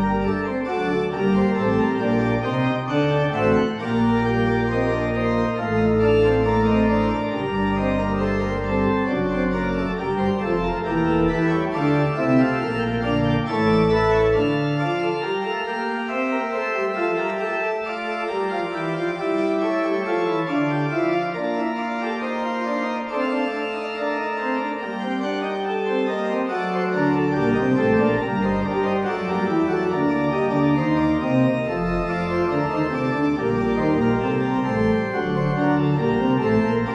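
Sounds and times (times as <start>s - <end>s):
church organ chords: 0.0s - 36.9s
deep organ bass notes: 0.0s - 36.9s.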